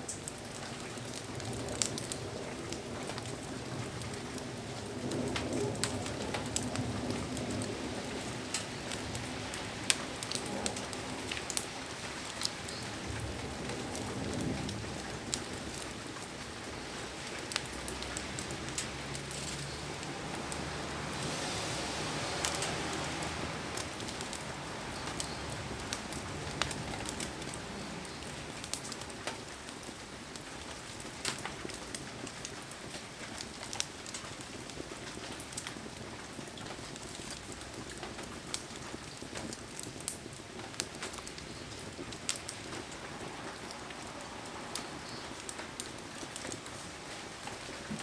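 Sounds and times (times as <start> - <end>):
heavy rain hissing: 0.0 - 31.2, 35.8 - 48.0.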